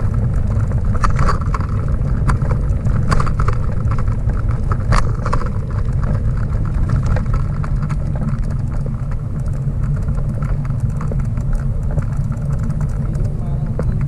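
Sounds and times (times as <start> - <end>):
rattles and knocks inside trailer: 0.0 - 14.0
trailer wheels rumbling on pavement: 0.0 - 14.0
wind buffeting microphone: 0.0 - 14.0.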